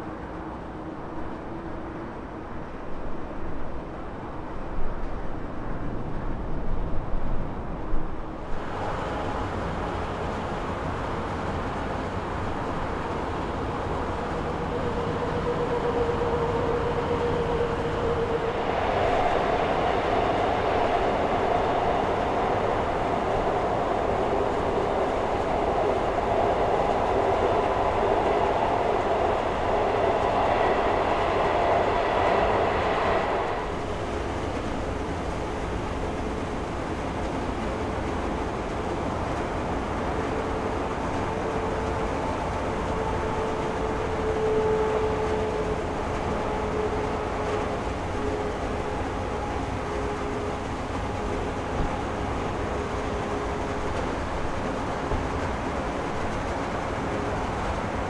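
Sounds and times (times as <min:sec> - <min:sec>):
jet engines running with whine: 0:00.0 - 0:58.0.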